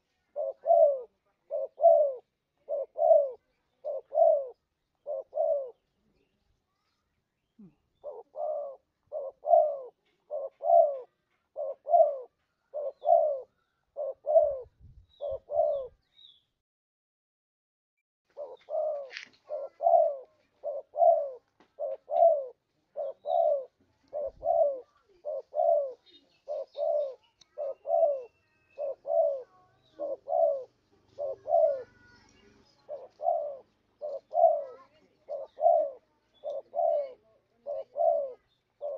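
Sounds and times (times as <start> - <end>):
dove cooing: 0.0 - 5.9, 7.6 - 16.0, 18.3 - 38.9.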